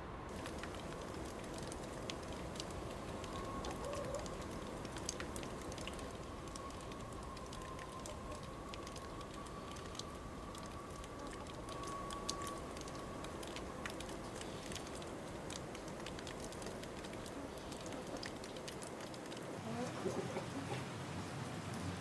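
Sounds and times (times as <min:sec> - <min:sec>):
steady hiss: 0:00.0 - 0:22.0
water drops pattering: 0:00.3 - 0:20.8.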